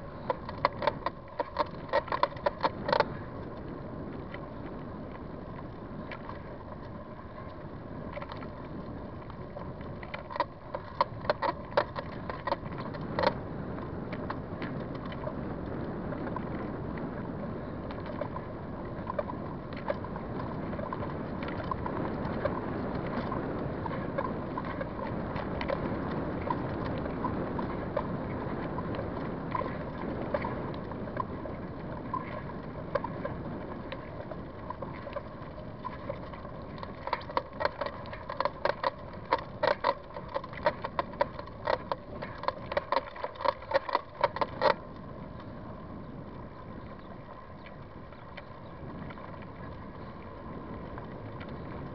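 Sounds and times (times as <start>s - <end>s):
wind and rolling noise: 0.0s - 51.9s.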